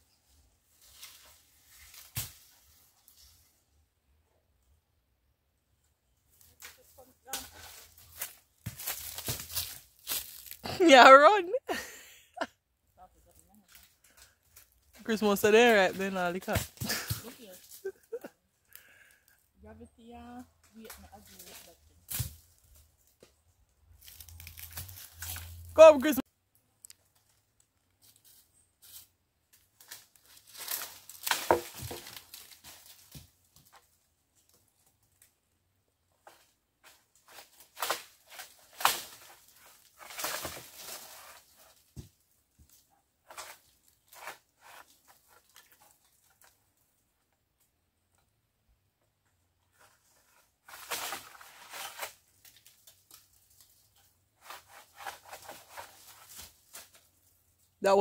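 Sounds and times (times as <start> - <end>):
leaves and branches rustling: 0.1 - 3.7, 6.2 - 10.8, 13.2 - 19.4, 20.6 - 26.2, 27.0 - 35.4, 36.2 - 47.2, 49.7 - 57.8.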